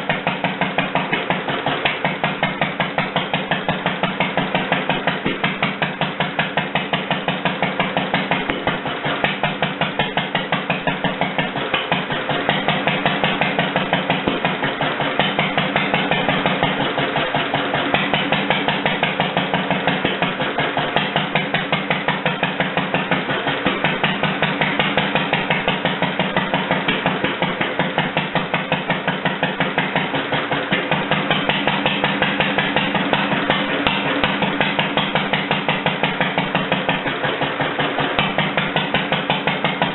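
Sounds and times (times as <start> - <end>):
single-cylinder engine idling: 0.0 - 39.9.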